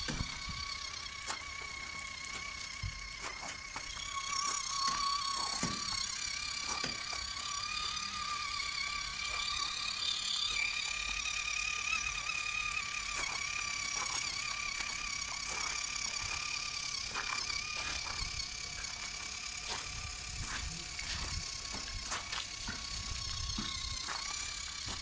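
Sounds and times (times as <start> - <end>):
small electric motor whine: 0.0 - 25.0.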